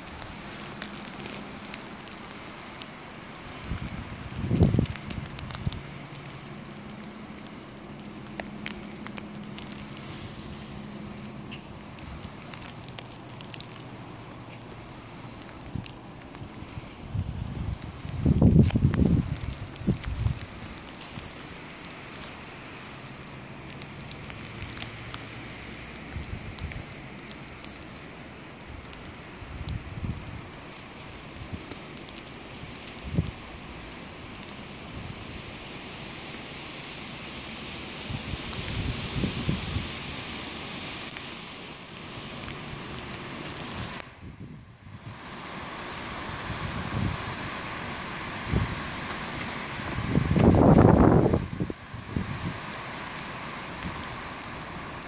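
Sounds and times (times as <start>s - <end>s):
snow pattering on surfaces: 0.0s - 55.0s.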